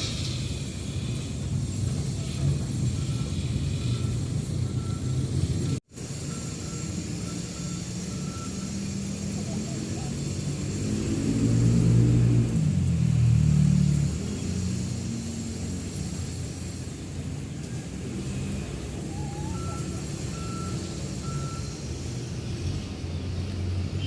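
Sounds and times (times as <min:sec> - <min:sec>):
vehicle engine running: 0:00.0 - 0:23.5.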